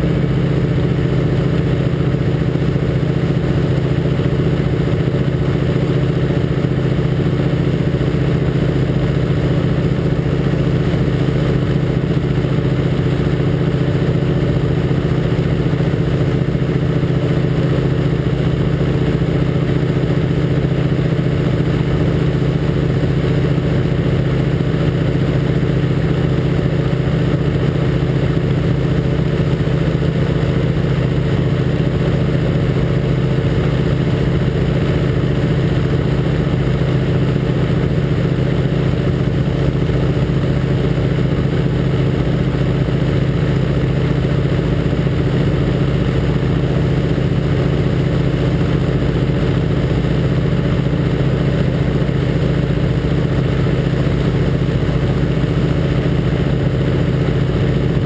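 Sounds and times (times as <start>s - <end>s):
radial engine and propeller running: 0.0s - 58.0s.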